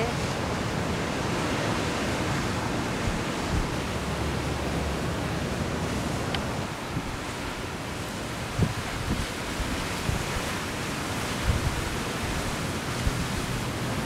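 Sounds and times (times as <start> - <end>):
ocean surf breaking: 0.0 - 14.0
wind on microphone: 0.0 - 14.0.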